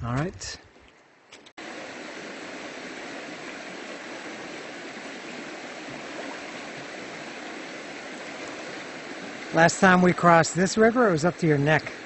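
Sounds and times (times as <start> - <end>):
river water rushing: 1.6 - 12.0.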